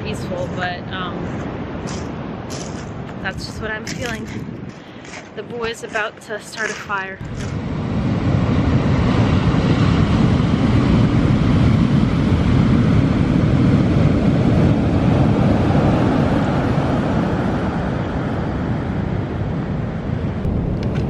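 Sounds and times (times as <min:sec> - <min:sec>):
surf waves breaking: 0:00.0 - 0:21.0
wind on microphone: 0:00.0 - 0:21.0.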